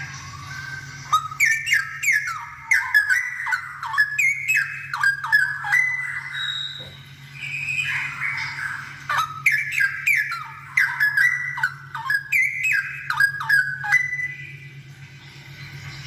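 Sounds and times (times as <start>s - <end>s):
bird singing whistled notes: 0.0s - 14.8s.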